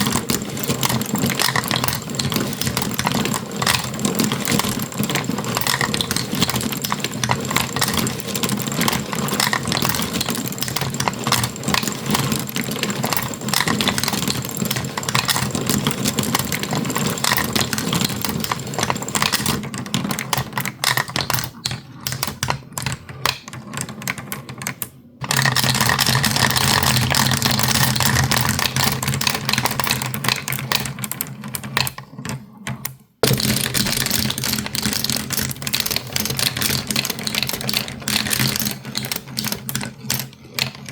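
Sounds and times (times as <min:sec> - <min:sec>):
marbles clattering down a run: 0:00.0 - 0:24.2, 0:25.2 - 0:31.0, 0:33.2 - 0:40.9.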